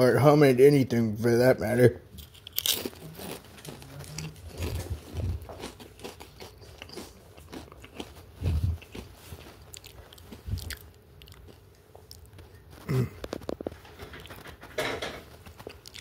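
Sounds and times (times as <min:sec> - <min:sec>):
chewing crispy food: 0:02.2 - 0:16.0.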